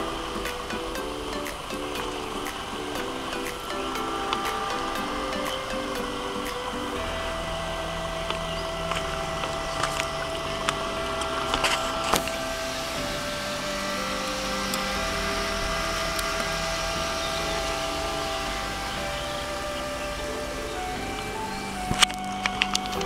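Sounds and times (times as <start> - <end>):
cooling fan whirring: 0.0 - 23.0.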